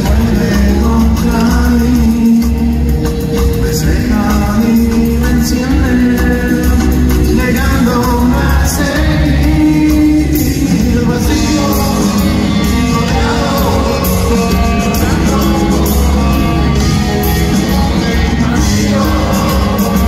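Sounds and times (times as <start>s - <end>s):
live rock band playing: 0.0s - 20.0s
person singing: 0.0s - 20.0s.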